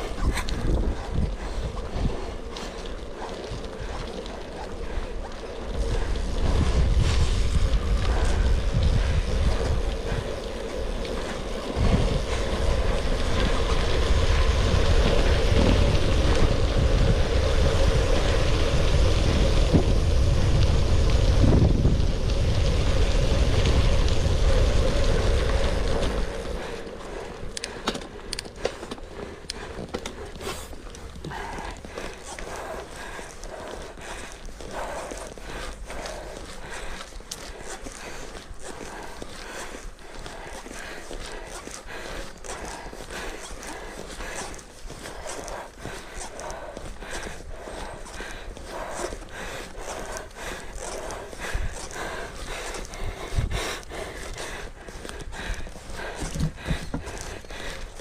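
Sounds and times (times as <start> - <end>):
bike tyres rumbling on gravel: 0.0 - 58.0
wind buffeting microphone: 0.0 - 58.0.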